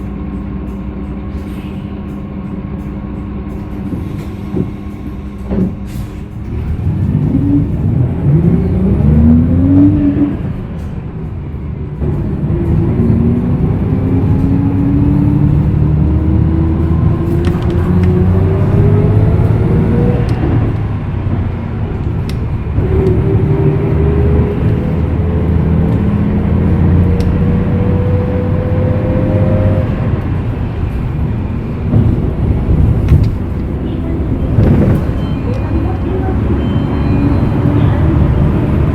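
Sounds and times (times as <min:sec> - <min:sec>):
bus engine accelerating: 0:00.0 - 0:38.9.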